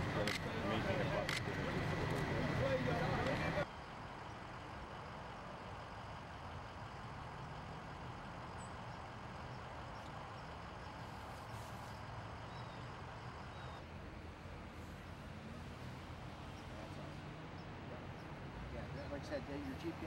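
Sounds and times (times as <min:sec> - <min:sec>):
outdoor background noise: 0:00.0 - 0:20.0
vehicle engine idling: 0:00.0 - 0:20.0.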